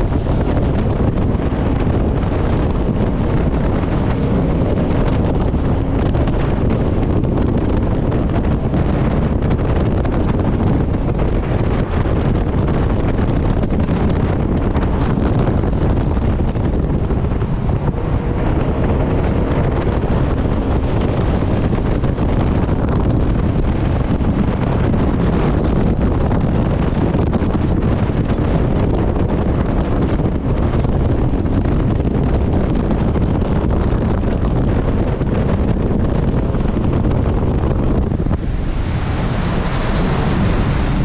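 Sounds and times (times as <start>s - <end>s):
water rushing: 0.0s - 32.4s, 33.6s - 41.0s
boat engine rushing: 0.0s - 41.0s
wind buffeting microphone: 0.0s - 41.0s.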